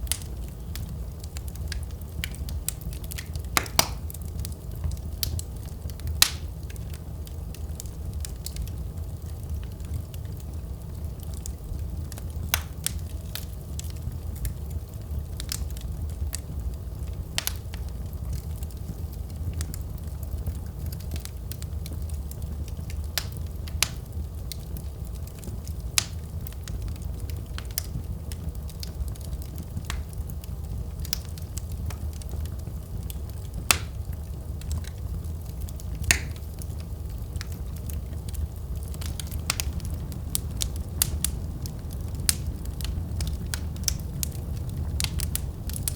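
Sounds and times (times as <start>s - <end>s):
fire flames rumbling: 0.0s - 45.9s
fire popping and snapping: 0.0s - 45.9s.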